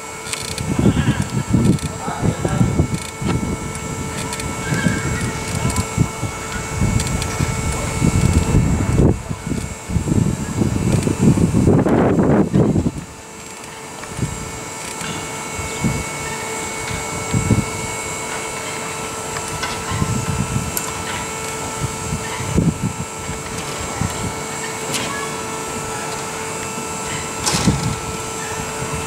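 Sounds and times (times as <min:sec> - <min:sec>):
indoor hall hum: 0:00.0 - 0:29.0.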